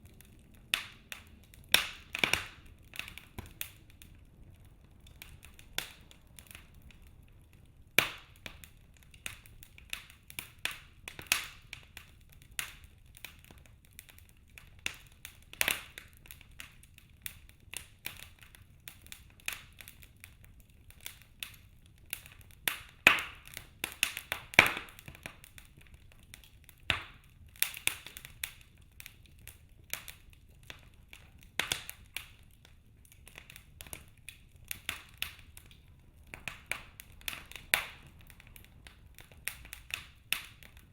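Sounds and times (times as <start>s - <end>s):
logs crackling in a fireplace: 0.0s - 40.9s
low fire hiss: 0.0s - 40.9s
sharp pops and snaps: 5.0s - 40.9s.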